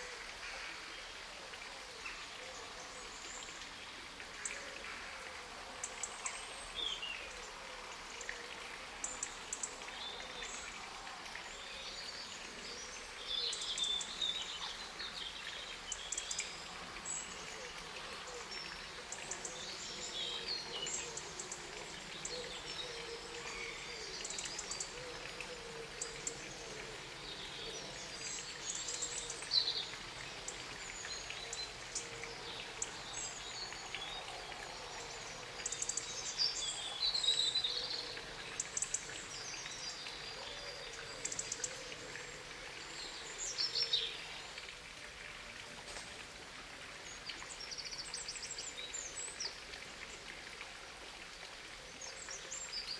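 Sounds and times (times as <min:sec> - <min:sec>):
outdoor background hiss: 0:00.0 - 0:52.9.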